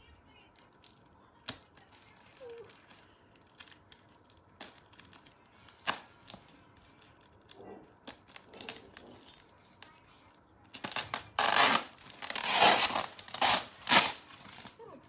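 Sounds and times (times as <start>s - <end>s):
plastic packaging crinkling and tearing: 0.3s - 15.0s.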